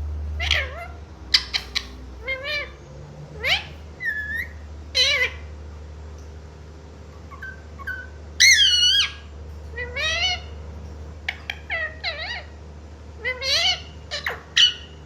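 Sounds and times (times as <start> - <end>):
parrot chirping and squawking: 0.3 - 5.6, 7.0 - 15.0.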